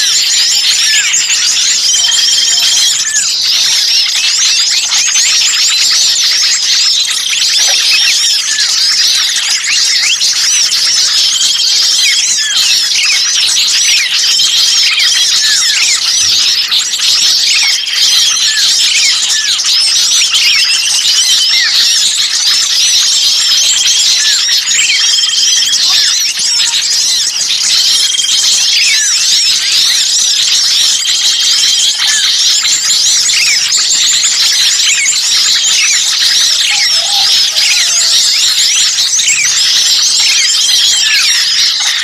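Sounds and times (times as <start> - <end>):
songbirds chirping and trilling: 0.0 - 42.0.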